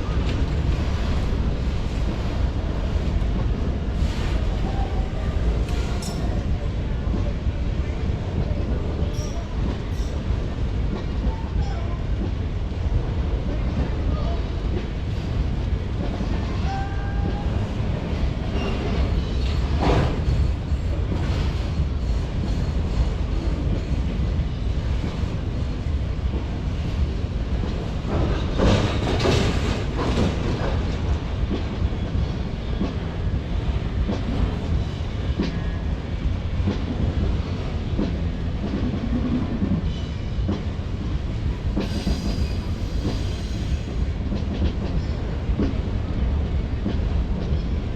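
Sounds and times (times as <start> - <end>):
freight train rumbling past: 0.0 - 47.9
train cars clanking: 0.0 - 47.9.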